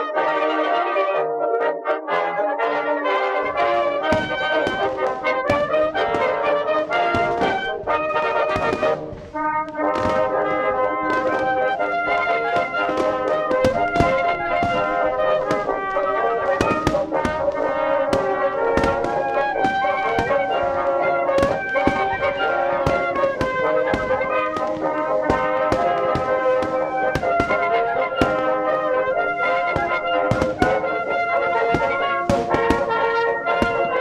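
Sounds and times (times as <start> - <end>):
brass music: 0.0 - 34.0
fireworks popping and banging: 3.2 - 34.0.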